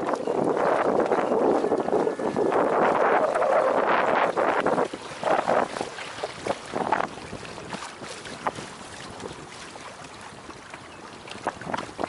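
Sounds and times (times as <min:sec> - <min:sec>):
water splashing along hull: 0:00.0 - 0:12.0
wind: 0:00.0 - 0:12.0.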